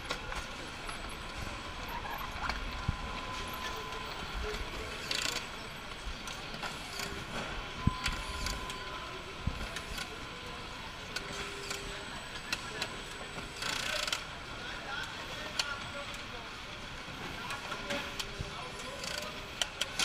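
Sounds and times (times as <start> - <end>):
factory floor background: 0.0 - 20.0.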